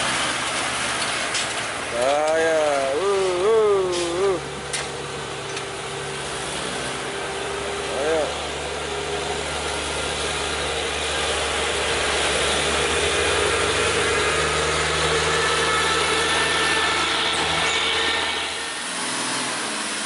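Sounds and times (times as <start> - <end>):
diesel truck engines rattling: 0.0 - 20.0.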